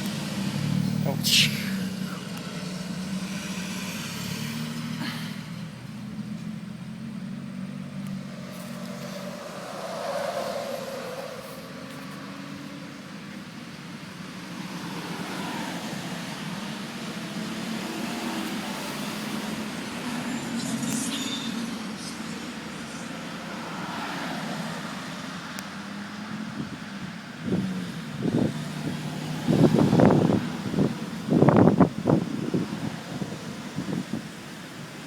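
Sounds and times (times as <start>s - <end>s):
outdoor background noise: 0.0s - 35.0s
vehicle engine humming: 0.0s - 35.0s.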